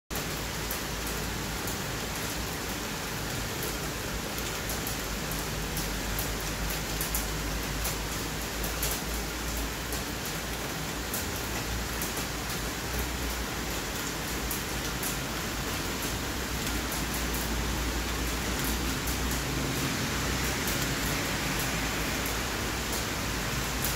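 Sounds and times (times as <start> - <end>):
heavy rain falling: 0.1 - 23.9.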